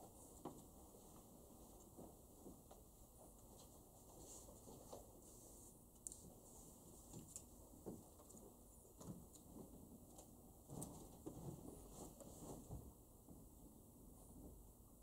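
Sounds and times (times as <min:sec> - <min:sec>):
faint small clicks and rustles: 0:00.2 - 0:14.6.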